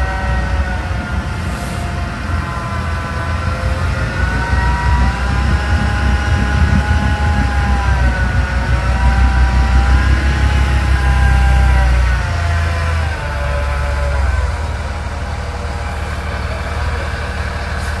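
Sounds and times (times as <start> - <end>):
truck engine rumbling with whine: 0.0 - 18.0.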